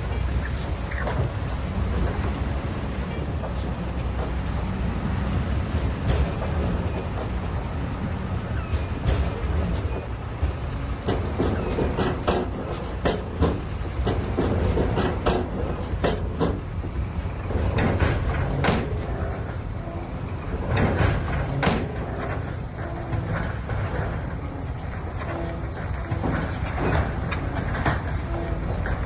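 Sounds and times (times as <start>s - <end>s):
diesel engine rumbling: 0.0s - 29.0s
sharp clanks and knocks: 0.0s - 29.0s.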